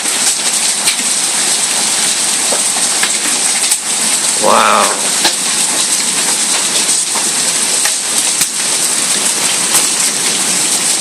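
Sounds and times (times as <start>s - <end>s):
hailstones clicking on hard surfaces: 0.0s - 4.4s, 5.1s - 11.0s
hail pelting down: 0.0s - 11.0s.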